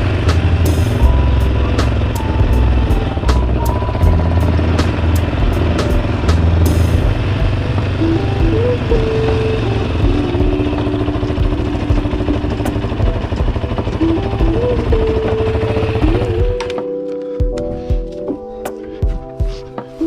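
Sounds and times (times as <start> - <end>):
vehicle rumble: 0.0 - 16.5
held melodic notes: 0.0 - 20.0.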